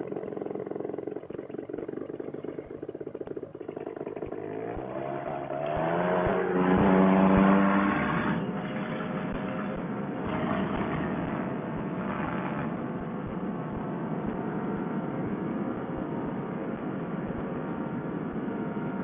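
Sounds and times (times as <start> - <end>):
paramotor engine throttling up: 0.0 - 19.0.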